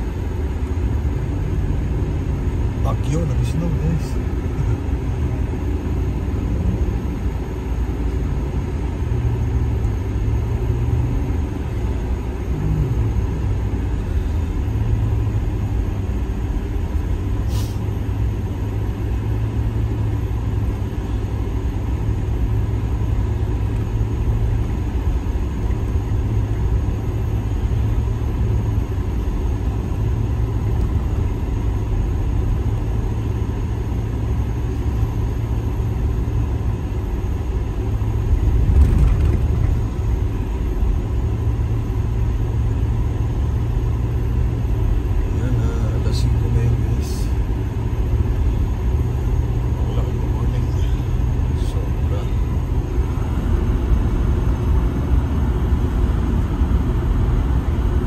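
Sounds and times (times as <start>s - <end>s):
car engine rumble: 0.0s - 58.0s
tyres on snowy road: 0.0s - 58.0s.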